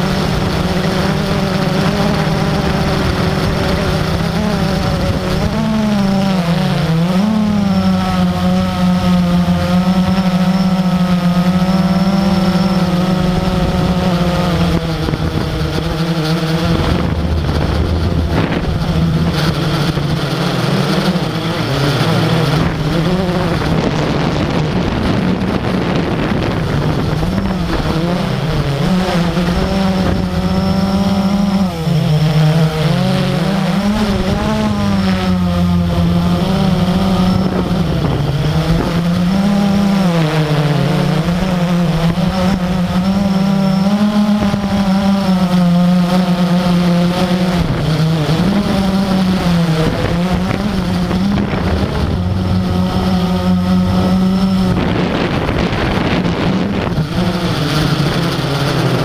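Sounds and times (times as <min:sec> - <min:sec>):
model aircraft motor and propeller: 0:00.0 - 0:59.0
rushing wind noise: 0:00.0 - 0:59.0.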